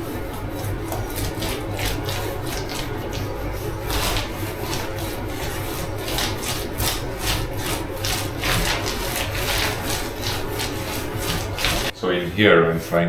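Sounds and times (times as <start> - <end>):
paintbrush swishing on wall: 0.0 - 12.0.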